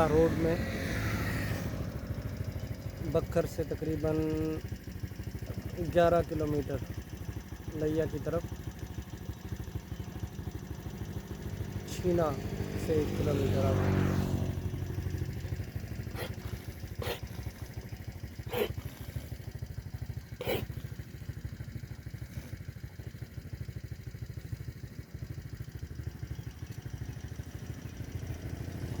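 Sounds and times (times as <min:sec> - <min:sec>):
small engine idling: 0:00.0 - 0:29.0.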